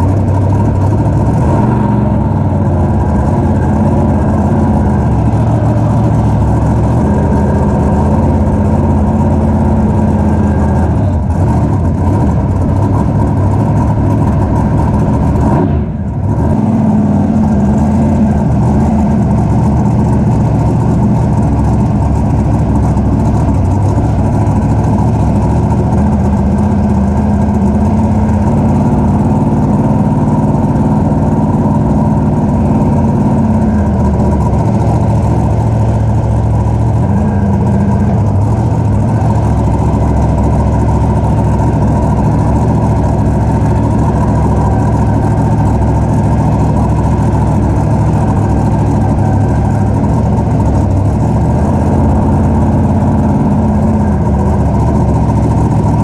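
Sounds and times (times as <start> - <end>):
truck engine running loud: 0.0 - 56.0.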